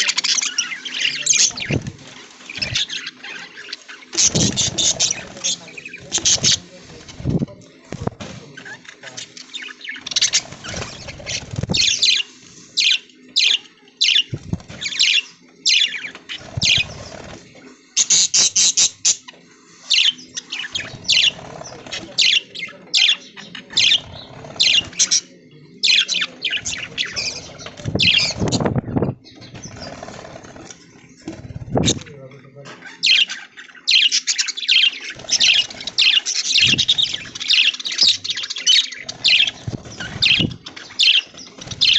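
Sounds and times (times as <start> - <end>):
budgerigars chirping: 0.0 - 7.3, 8.6 - 17.2, 18.0 - 32.1, 32.7 - 41.9.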